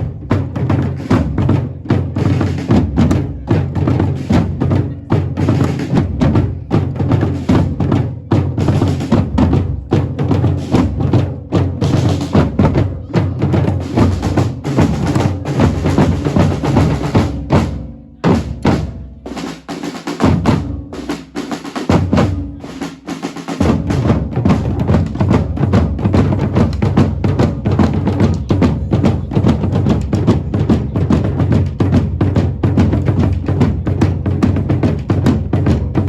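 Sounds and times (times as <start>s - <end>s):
deep drums: 0.0s - 36.0s
drum-led music: 0.0s - 36.0s.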